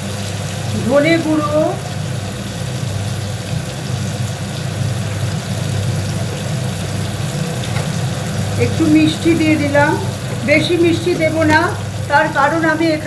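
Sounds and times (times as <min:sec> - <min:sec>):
gas stove hum: 0:00.0 - 0:13.0
spices sizzling in oil: 0:00.0 - 0:13.0.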